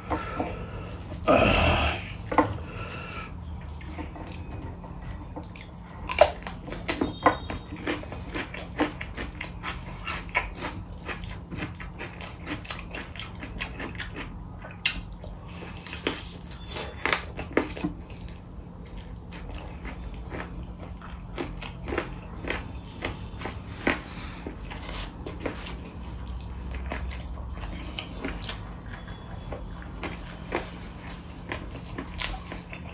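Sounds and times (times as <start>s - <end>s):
person chewing food: 0.0s - 32.9s.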